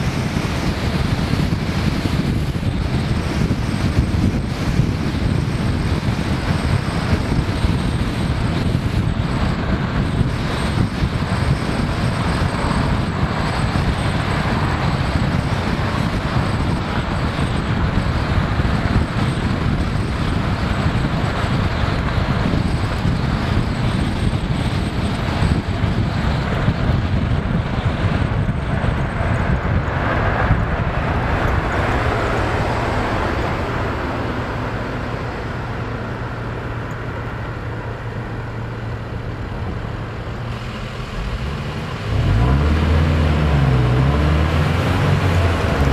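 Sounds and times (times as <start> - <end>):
low engine hum: 0.0 - 45.9
rushing wind and road noise: 0.0 - 45.9.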